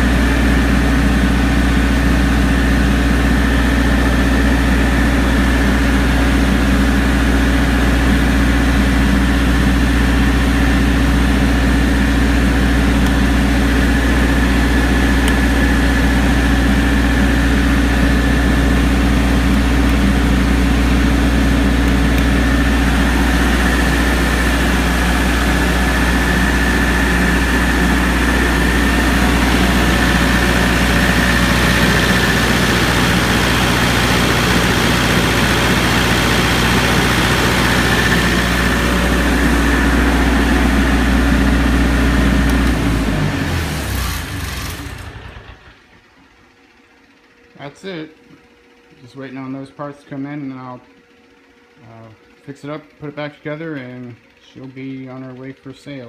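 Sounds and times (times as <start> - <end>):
diesel generator drone: 0.0 - 56.0.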